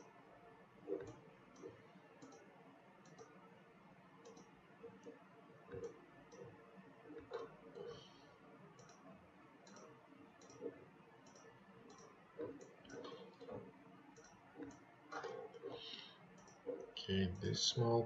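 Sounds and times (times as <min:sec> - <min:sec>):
computer mouse clicks: 0:00.9 - 0:03.4, 0:04.2 - 0:08.1, 0:08.8 - 0:17.0.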